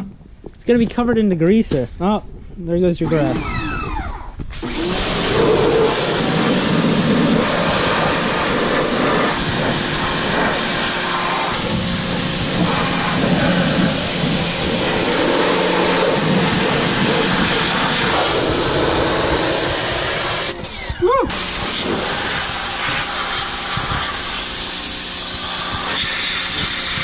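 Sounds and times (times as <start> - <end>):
high whine: 3.0 - 27.0
pressure washer spraying: 4.6 - 27.0.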